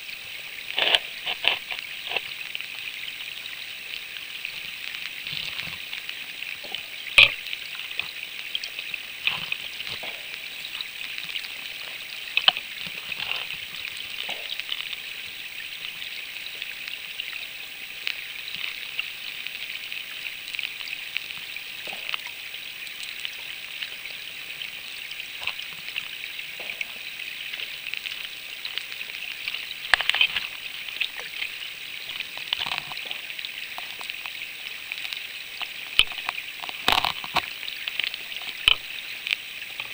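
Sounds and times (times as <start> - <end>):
river water flowing underwater: 0.0 - 39.9
crackling ticks: 0.5 - 39.9.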